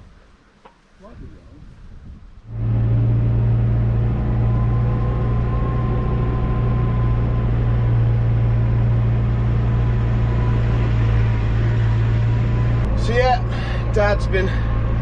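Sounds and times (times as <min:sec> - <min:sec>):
diesel engine drone: 0:02.4 - 0:15.0
faint high whine: 0:02.5 - 0:15.0.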